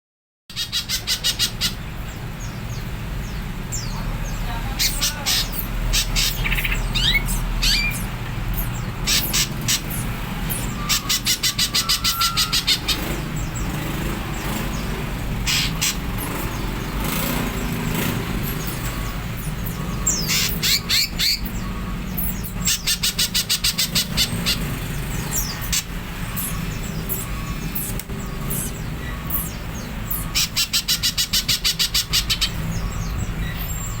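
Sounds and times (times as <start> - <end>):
fast bird chattering notes: 0.5 - 2.8, 3.7 - 34.0
bird singing sharp high calls: 0.5 - 34.0.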